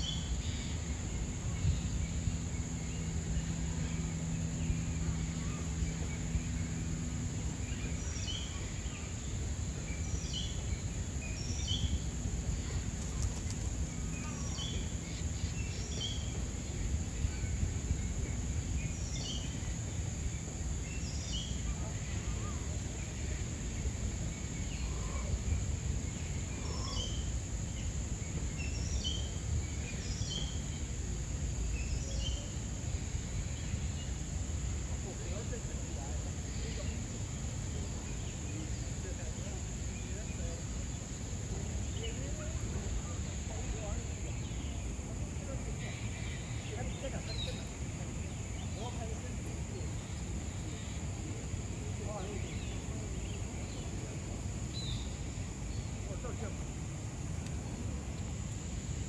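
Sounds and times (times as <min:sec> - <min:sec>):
low rumbling background: 0:00.0 - 0:59.0
small birds chirping: 0:00.0 - 0:59.0.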